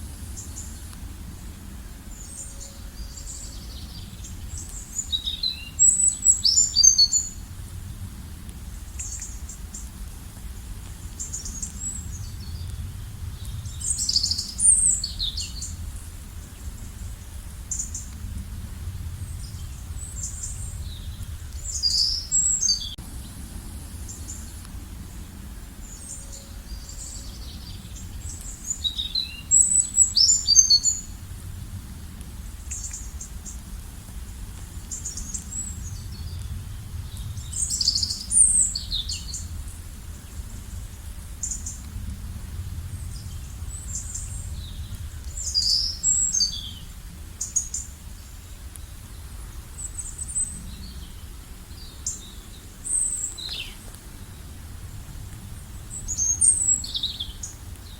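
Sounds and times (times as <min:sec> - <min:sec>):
steady low rumble: 0:00.0 - 0:57.9
small birds chirping: 0:02.1 - 0:07.5, 0:08.7 - 0:18.4, 0:19.1 - 0:31.2, 0:32.5 - 0:42.1, 0:42.9 - 0:57.9.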